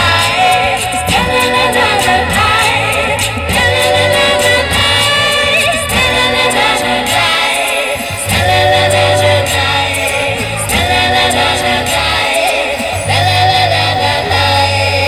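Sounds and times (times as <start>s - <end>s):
people singing: 0.0s - 15.0s
rhythmic accompaniment: 0.0s - 15.0s
steady bass: 0.0s - 15.0s.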